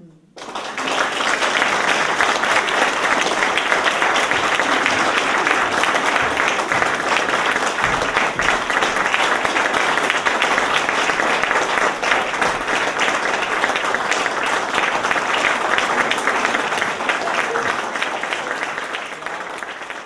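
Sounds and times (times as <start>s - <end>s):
audience applause: 0.4s - 20.0s.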